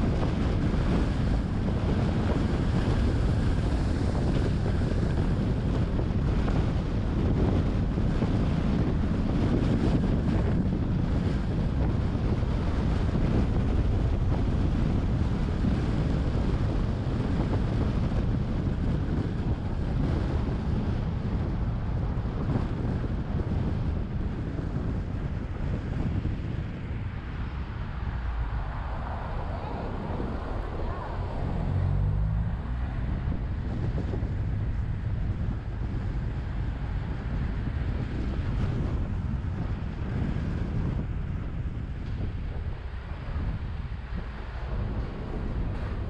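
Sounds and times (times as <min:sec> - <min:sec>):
road noise: 0:00.0 - 0:46.0
wind buffeting microphone: 0:00.0 - 0:46.0.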